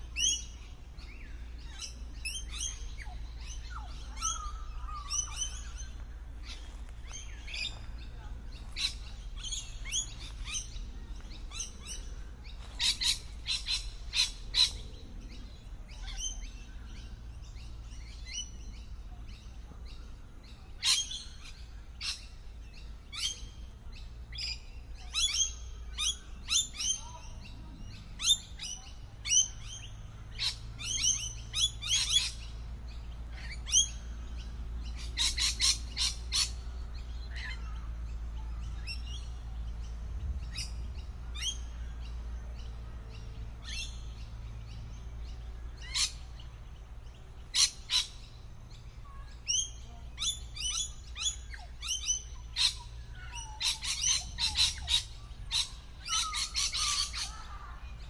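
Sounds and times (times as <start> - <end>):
birds screeching chirps: 0.0 - 58.0.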